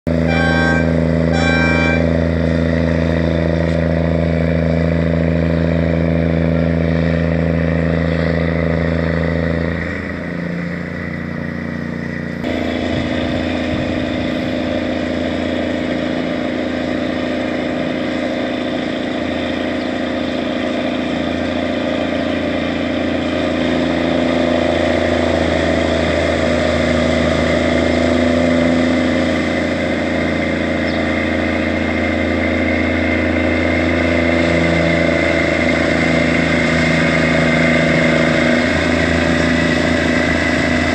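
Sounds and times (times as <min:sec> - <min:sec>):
boat engine running: 0:00.1 - 0:09.0, 0:12.4 - 0:40.9.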